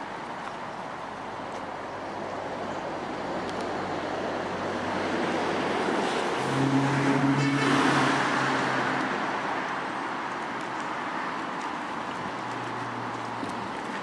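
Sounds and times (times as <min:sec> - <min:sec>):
vehicle approaching: 0:02.1 - 0:14.0.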